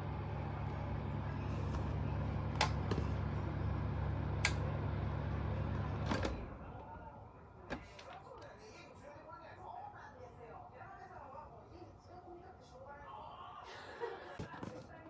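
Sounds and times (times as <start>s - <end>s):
ventilation fan motor hum: 0.0s - 15.0s.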